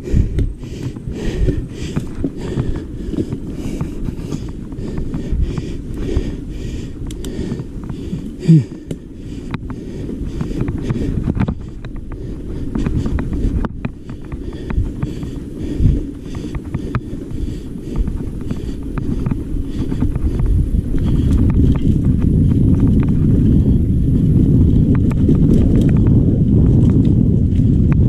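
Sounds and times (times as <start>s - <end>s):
bike rattling over bumps: 0.0s - 28.0s
wind buffeting microphone: 0.0s - 28.0s.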